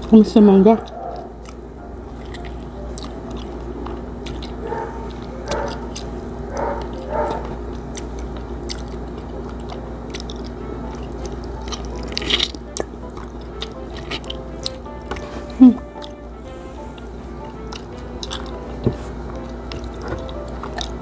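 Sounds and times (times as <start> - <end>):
wet chewing and smacking: 0.0 - 21.0.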